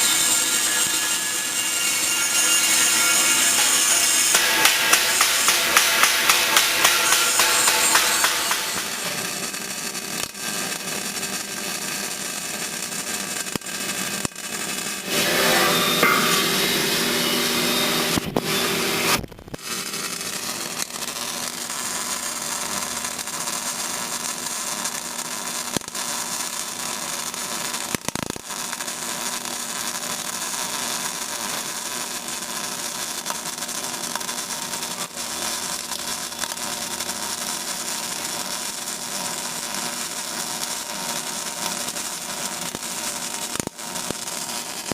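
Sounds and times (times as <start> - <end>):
welding arc crackling: 0.0 - 44.9.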